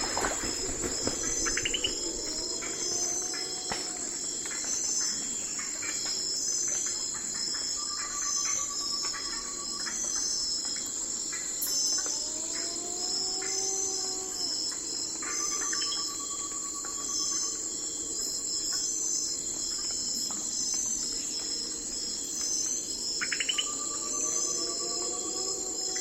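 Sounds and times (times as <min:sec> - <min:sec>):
crickets and insects chirring: 0:00.0 - 0:26.0.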